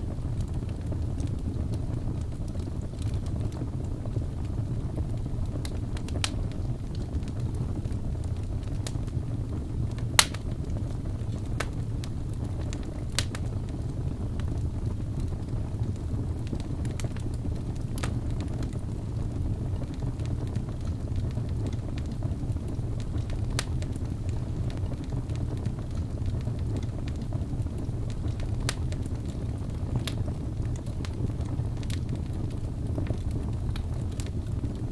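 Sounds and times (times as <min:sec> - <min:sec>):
low rumble of fire: 0:00.0 - 0:34.9
wood fire popping: 0:00.0 - 0:34.9.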